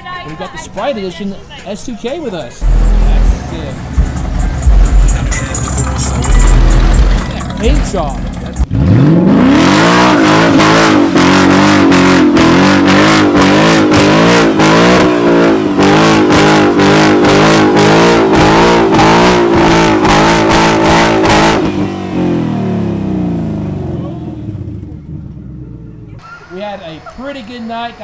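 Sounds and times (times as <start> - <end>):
car engine at high revs: 2.6 - 26.2.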